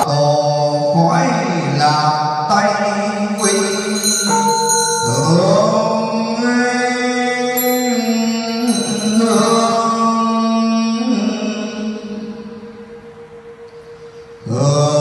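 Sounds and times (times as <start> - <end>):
slow liturgical chant: 0.0 - 15.0.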